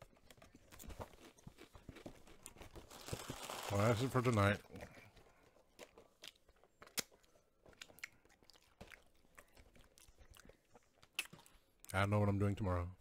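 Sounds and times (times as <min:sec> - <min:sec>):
crackers crunching: 0:00.0 - 0:11.6.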